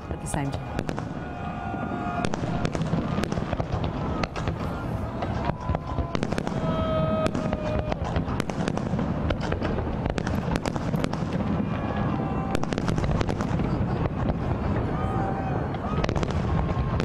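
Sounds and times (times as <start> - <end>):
distant fireworks rumble: 0.0 - 17.0
fireworks bangs and crackles: 0.0 - 17.0.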